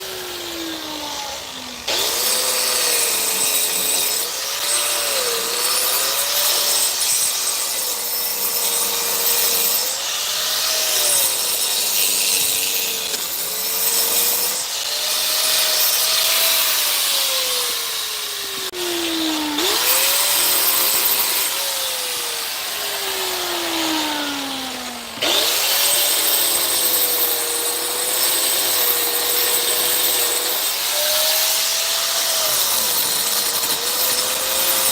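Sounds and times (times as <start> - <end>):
power saw cutting wood: 0.0 - 34.9.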